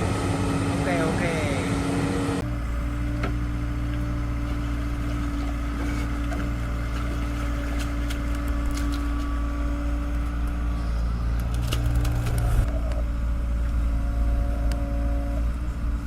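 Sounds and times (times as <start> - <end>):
diesel machinery engine rumbling: 0.0 - 16.0.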